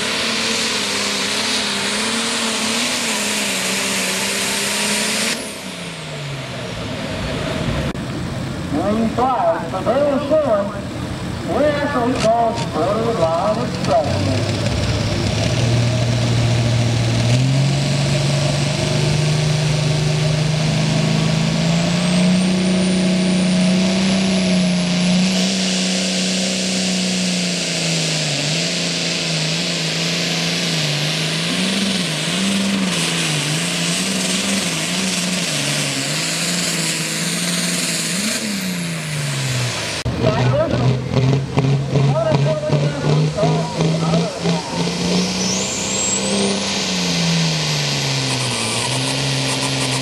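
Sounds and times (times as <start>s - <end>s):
tractor diesel engine revving: 0.0s - 50.0s.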